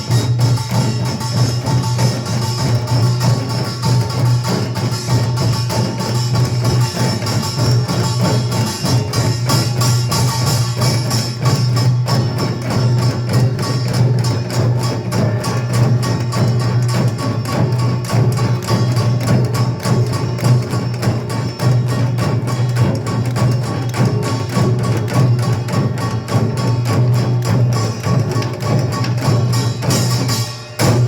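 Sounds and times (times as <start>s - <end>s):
percussion ensemble drumming: 0.0s - 31.0s.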